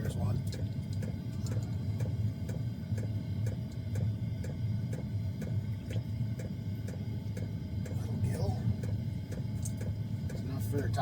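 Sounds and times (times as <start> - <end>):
fuel pump ticking: 0.0 - 11.0
heater burner and fan rumble: 0.0 - 11.0.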